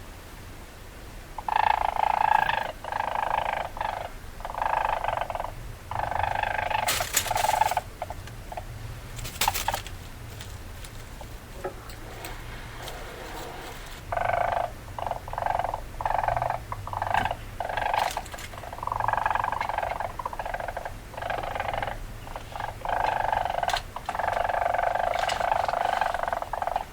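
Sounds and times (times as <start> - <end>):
weasel chattering calls: 1.4 - 10.0, 10.6 - 26.9.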